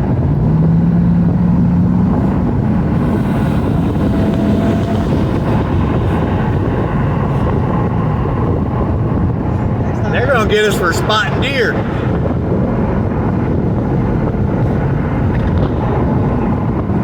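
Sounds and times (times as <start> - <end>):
car engine running: 0.0 - 17.0
road and wind noise: 0.0 - 17.0.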